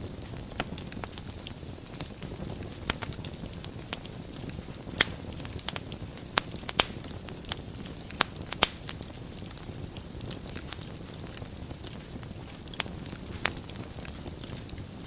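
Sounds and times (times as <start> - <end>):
fire crackling and popping: 0.0 - 15.0
fire low rush: 1.9 - 15.0.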